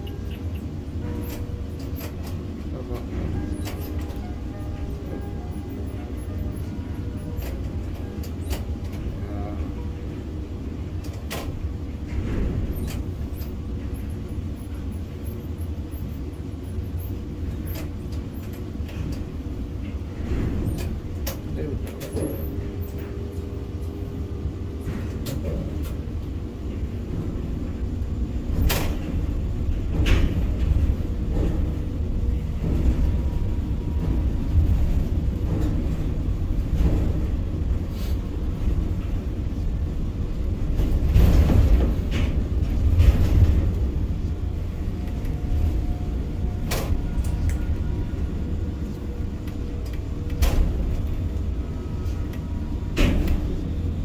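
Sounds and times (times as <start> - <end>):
crane machinery rumble: 0.0 - 54.0.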